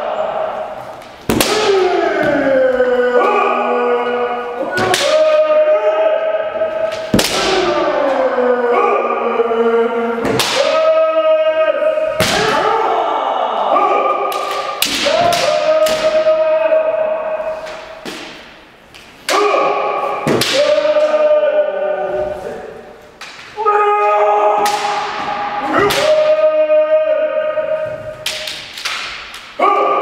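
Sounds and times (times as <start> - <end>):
fencers shouting: 0.0 - 18.6, 19.2 - 30.0.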